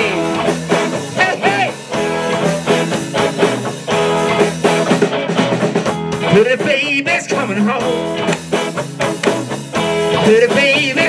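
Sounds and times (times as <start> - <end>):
bass guitar: 0.0 - 11.0
drums: 0.0 - 11.0
electric guitar riff: 0.0 - 11.0.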